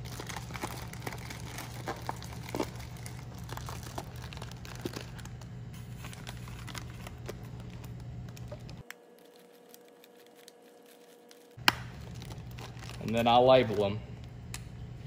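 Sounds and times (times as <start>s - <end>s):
plastic bag crinkling: 0.0s - 13.9s
steady low hum: 0.0s - 15.0s.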